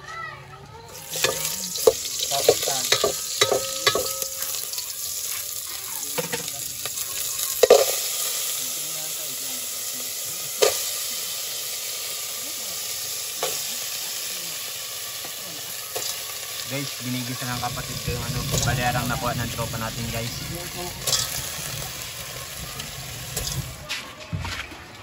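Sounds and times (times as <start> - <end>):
pot boiling and hissing: 0.9 - 24.2.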